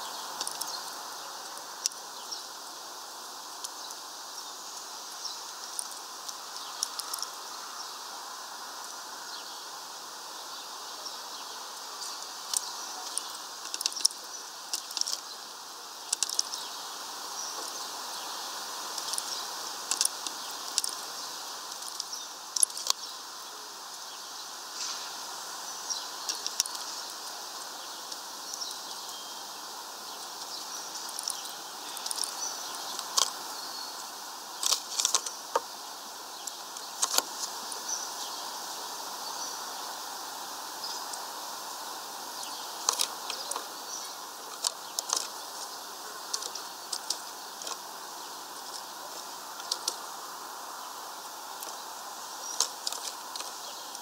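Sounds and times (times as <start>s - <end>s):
background noise: 0.0s - 54.0s.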